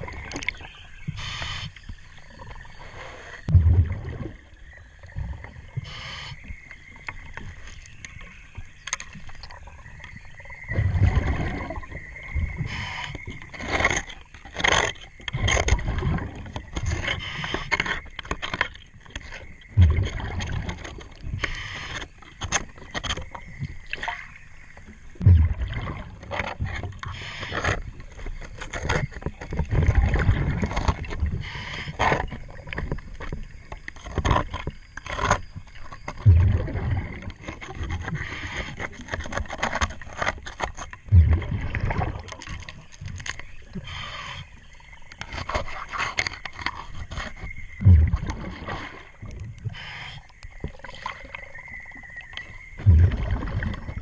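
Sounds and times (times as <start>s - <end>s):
underwater exhaled bubbles rumbling: 0.0s - 1.6s, 2.2s - 7.4s, 8.0s - 14.0s, 14.8s - 17.8s, 19.2s - 21.7s, 23.3s - 34.8s, 35.9s - 39.4s, 41.0s - 45.2s, 47.5s - 54.0s
scraping and knocking underwater: 0.0s - 54.0s.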